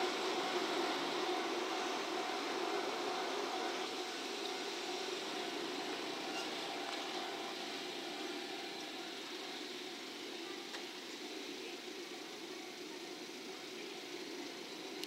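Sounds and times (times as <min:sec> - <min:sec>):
faint steady hum: 0:00.0 - 0:15.0
high-speed train running: 0:00.0 - 0:15.0.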